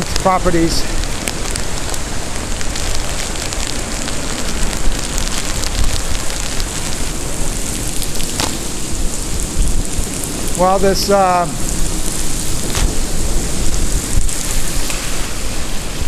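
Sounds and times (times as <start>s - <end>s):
steady rain: 0.0s - 16.0s
wind buffeting microphone: 0.0s - 16.0s.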